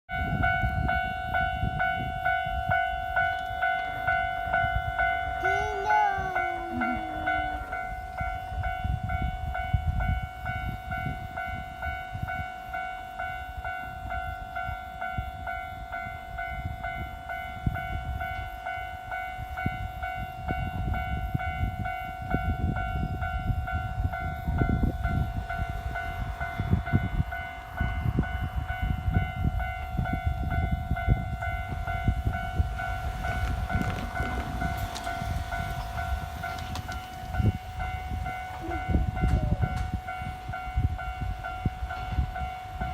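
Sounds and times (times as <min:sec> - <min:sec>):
level crossing alarm bell: 0:00.1 - 0:42.9.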